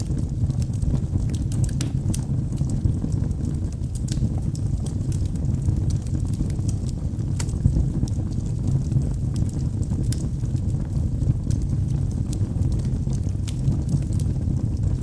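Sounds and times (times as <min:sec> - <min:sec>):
burning logs crackling and popping: 0:00.0 - 0:15.0
fire rumbling: 0:00.0 - 0:15.0.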